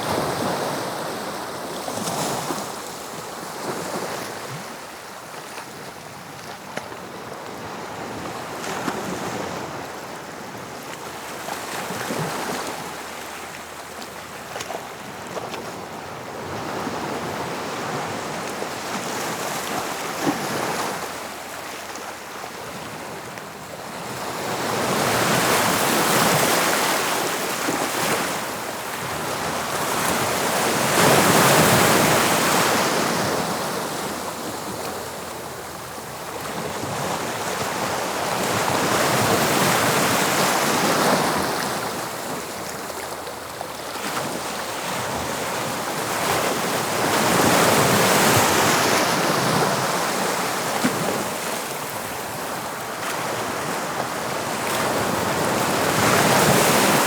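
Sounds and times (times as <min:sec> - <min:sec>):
sea waves breaking on shore: 0:07.5 - 0:57.0.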